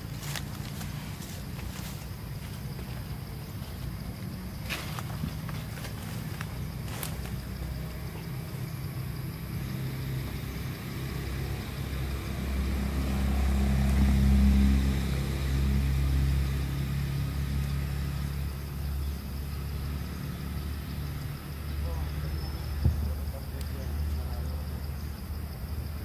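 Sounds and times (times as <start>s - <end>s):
motor engine humming: 0.0s - 26.0s.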